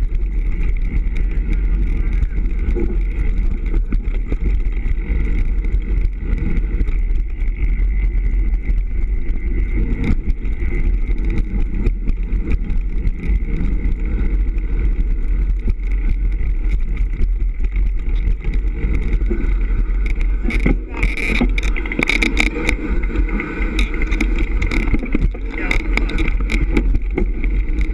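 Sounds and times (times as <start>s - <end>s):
bike rattling and knocking: 0.0s - 27.9s
wind on microphone: 0.0s - 27.9s.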